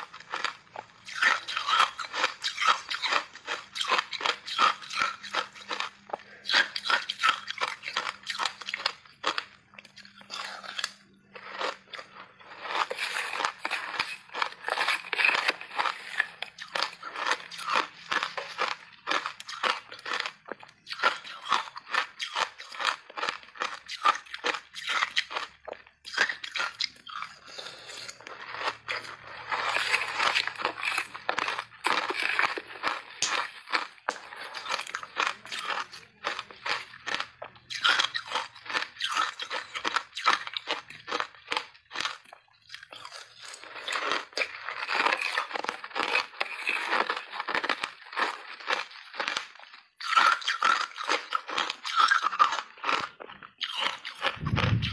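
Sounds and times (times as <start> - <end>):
ice being crunched and chewed: 0.0 - 54.9.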